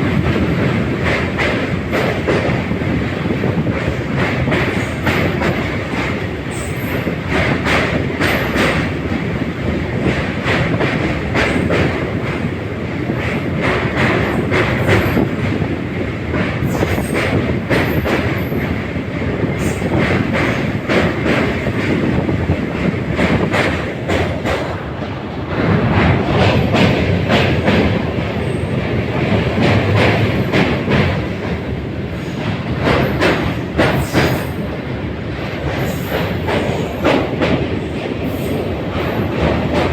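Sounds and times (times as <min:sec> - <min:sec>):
train rumbling on bridge: 0:00.0 - 0:39.9.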